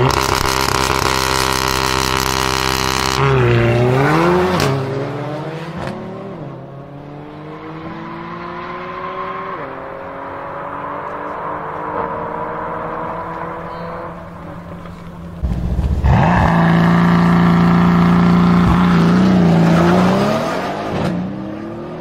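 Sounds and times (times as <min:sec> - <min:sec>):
car engine revving and upshifting: 0:00.0 - 0:22.0.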